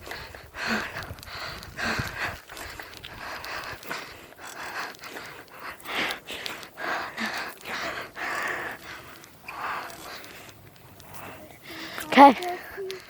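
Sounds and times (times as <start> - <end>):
person panting: 0.0 - 13.0.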